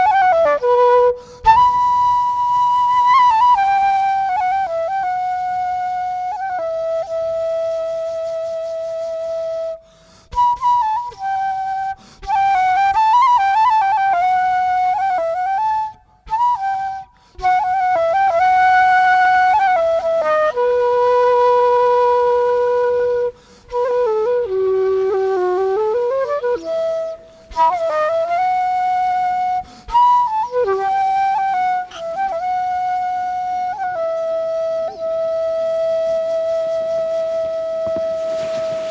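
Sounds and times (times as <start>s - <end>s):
flute-like woodwind melody: 0.0s - 38.9s.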